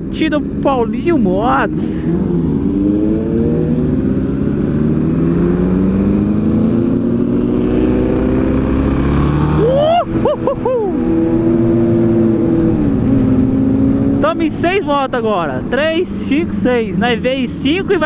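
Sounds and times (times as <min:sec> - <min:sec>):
motorcycle engine accelerating and revving: 0:00.0 - 0:18.0.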